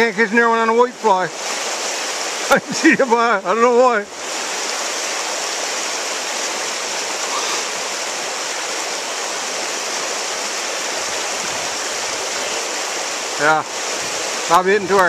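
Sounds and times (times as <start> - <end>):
river rapids rushing over rocks: 0.2 - 15.0.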